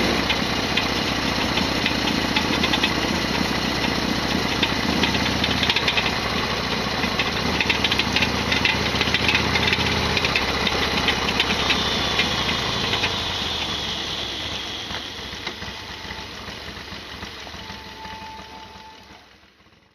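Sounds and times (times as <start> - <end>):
engine clattering rattle: 0.0 - 19.9
motorcycle engine idling: 0.0 - 19.9.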